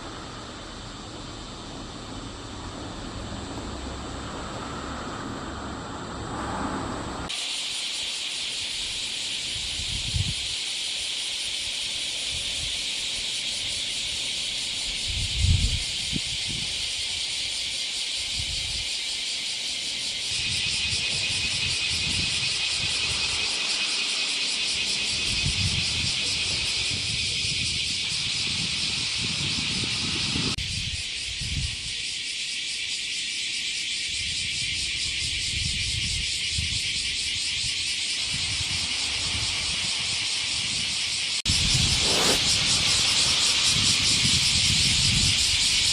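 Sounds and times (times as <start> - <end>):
cicadas buzzing: 0.0 - 45.9.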